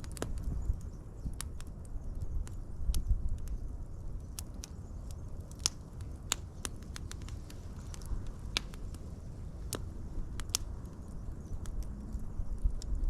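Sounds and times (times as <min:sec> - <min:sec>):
low rumble of flame: 0:00.0 - 0:13.0
wood fire crackling: 0:00.0 - 0:13.0.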